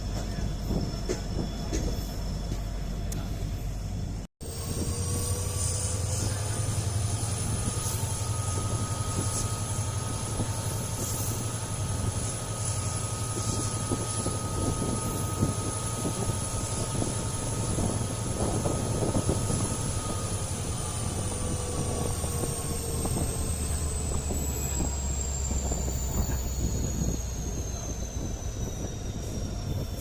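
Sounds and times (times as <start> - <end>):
diesel locomotive humming: 0.0 - 30.0
thin high whine: 4.4 - 30.0.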